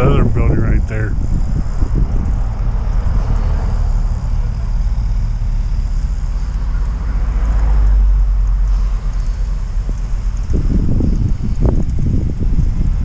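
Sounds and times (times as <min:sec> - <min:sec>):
wind buffeting microphone: 0:00.0 - 0:06.3, 0:07.9 - 0:13.0.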